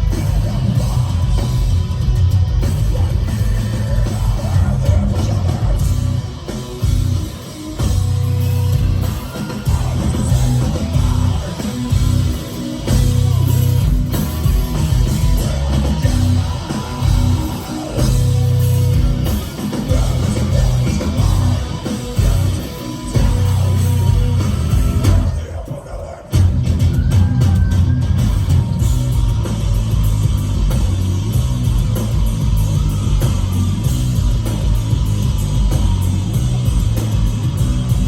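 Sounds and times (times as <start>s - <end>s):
heavy metal band playing: 0.0s - 38.0s.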